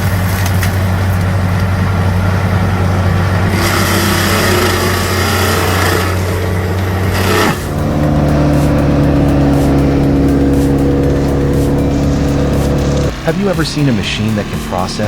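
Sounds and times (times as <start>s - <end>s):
hissing grinding noise: 0.0s - 15.0s
mulching machine engine drone: 0.0s - 15.0s.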